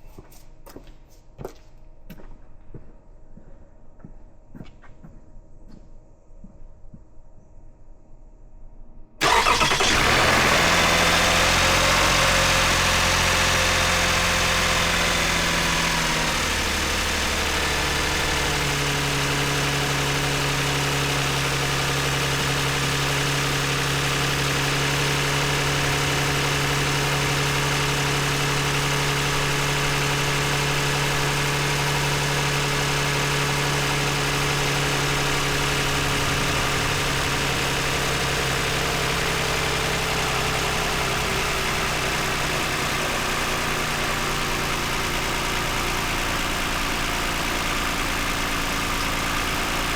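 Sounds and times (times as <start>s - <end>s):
car engine starting and idling: 9.2s - 49.9s.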